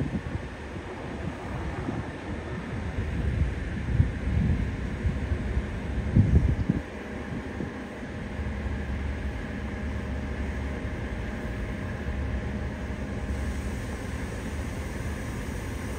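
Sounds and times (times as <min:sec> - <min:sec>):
airship propeller engines droning: 0:00.0 - 0:15.9.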